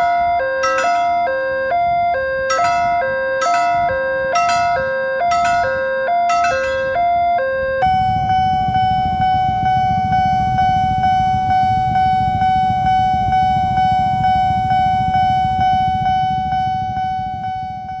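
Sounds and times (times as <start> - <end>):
level crossing alarm bell: 0.0 - 18.0.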